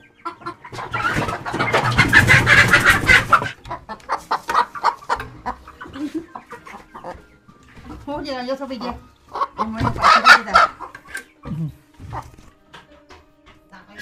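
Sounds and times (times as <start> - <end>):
chickens squawking and clucking: 0.0 - 14.0.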